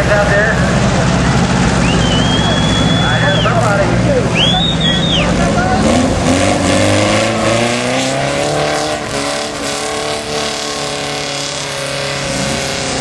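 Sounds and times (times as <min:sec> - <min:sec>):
buggy engine at high revs: 0:00.0 - 0:13.0.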